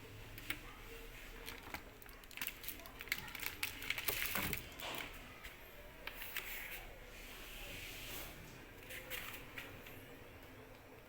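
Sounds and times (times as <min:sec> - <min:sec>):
soft handling rustling: 0:00.3 - 0:11.0.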